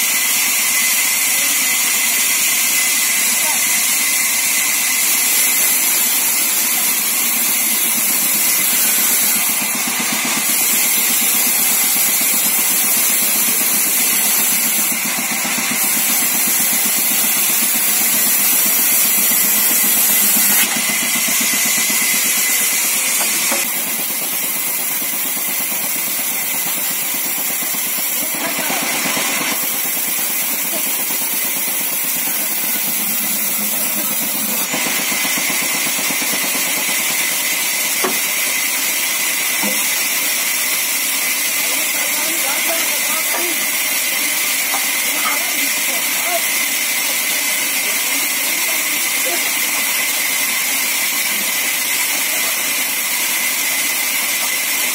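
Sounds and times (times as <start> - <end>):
band saw whirring: 0.0 - 54.9
saw blade hissing through wood: 0.0 - 54.9.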